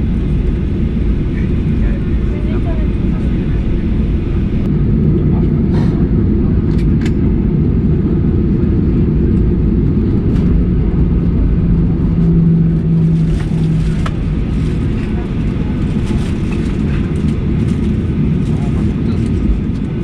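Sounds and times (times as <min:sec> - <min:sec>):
aircraft cabin rumble: 0:00.0 - 0:20.0
low hum: 0:00.0 - 0:20.0.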